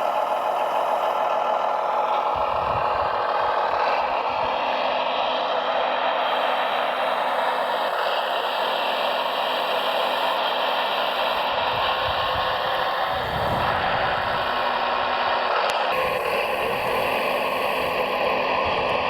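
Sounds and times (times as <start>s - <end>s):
electric motors and gears whirring: 0.0s - 19.0s.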